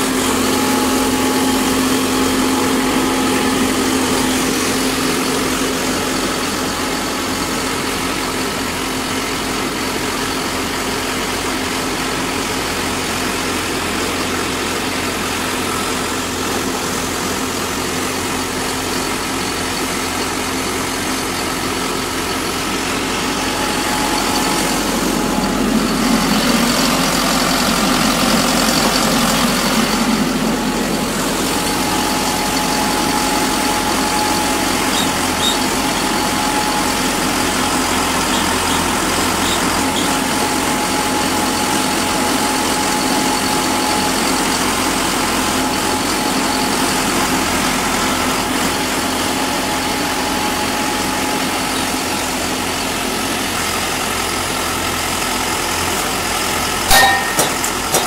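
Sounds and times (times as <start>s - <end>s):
pile driver engine idling: 0.0s - 58.0s.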